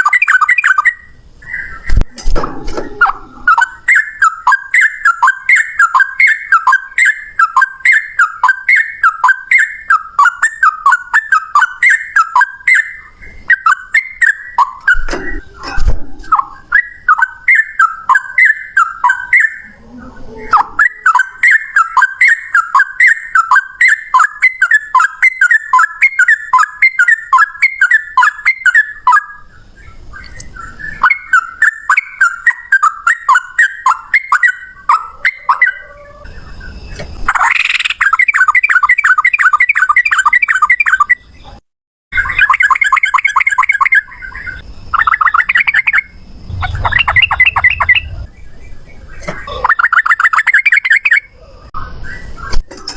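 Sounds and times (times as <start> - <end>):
bulbul singing: 0.0 - 52.6.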